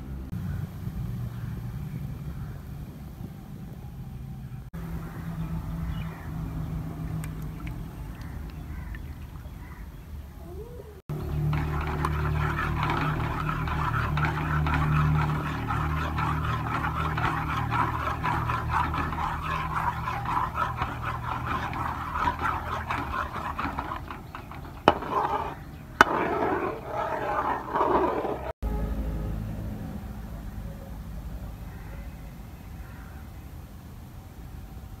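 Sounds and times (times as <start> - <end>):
steady low hum: 0.4 - 28.8.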